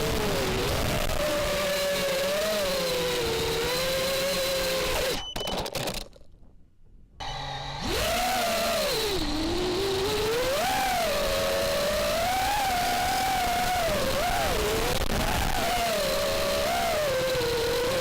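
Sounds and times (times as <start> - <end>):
drone motors whining: 0.0 - 5.6, 7.2 - 18.0.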